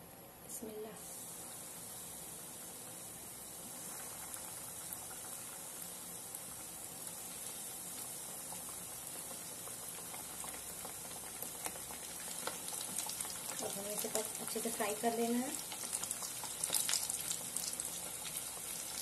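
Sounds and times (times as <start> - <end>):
chicken sizzling in hot oil: 0.6 - 19.0.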